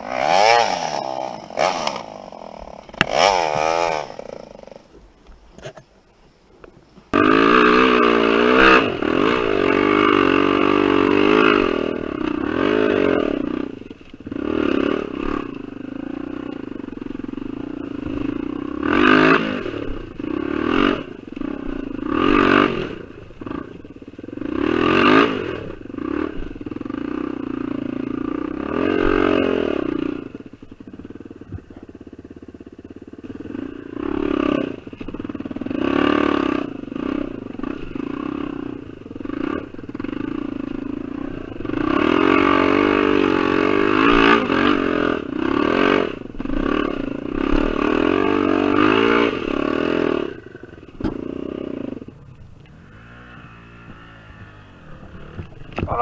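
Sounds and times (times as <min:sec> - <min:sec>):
dirt bike engine revving: 0:00.0 - 0:05.0, 0:07.1 - 0:56.0.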